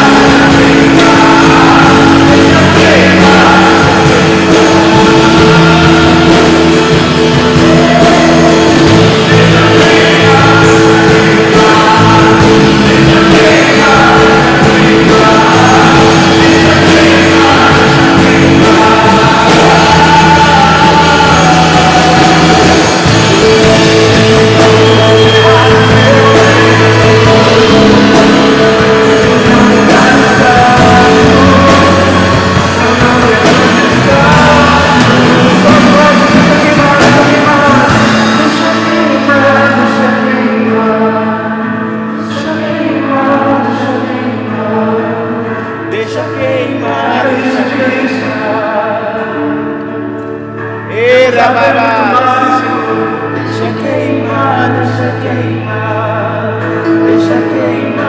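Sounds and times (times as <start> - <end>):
rock band playing with singing: 0.0 - 58.0.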